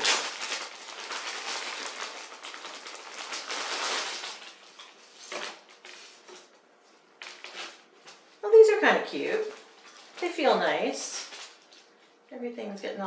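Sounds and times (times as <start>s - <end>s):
plastic bag crinkling: 0.0s - 6.5s, 7.2s - 8.3s, 9.1s - 12.1s.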